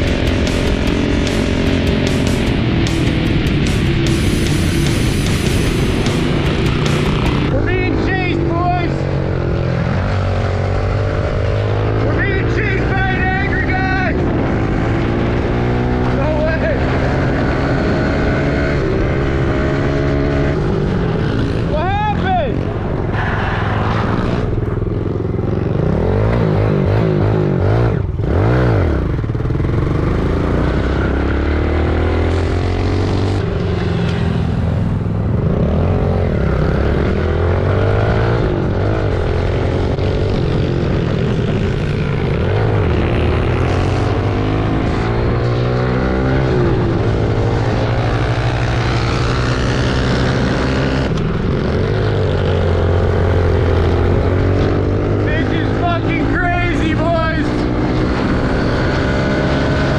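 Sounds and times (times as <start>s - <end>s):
pit bike engines revving: 0.0s - 59.9s.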